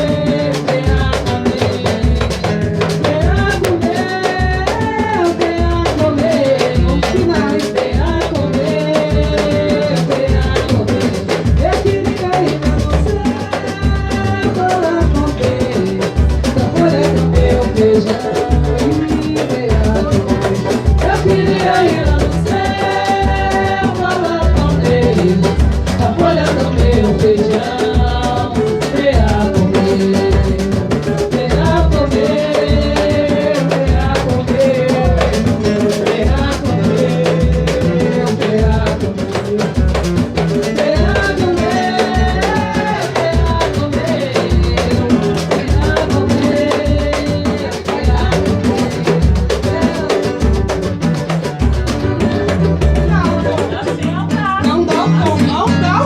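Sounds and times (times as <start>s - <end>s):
drums beating: 0.0s - 56.0s
person singing melody: 0.0s - 56.0s.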